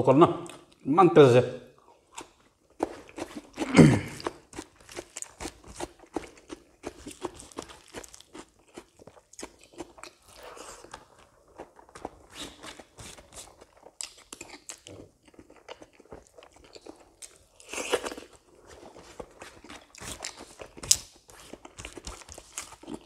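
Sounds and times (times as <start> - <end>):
person chewing: 1.8 - 23.0.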